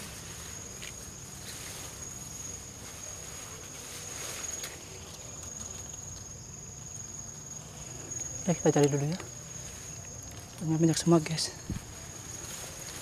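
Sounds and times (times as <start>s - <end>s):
insects trilling: 0.0s - 13.0s
rustle of grass and leaves: 0.0s - 13.0s.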